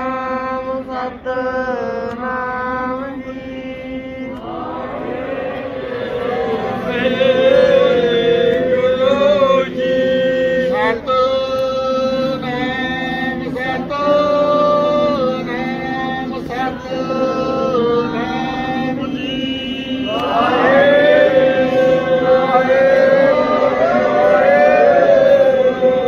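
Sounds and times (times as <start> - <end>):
voices chanting devotionally: 0.0 - 26.0.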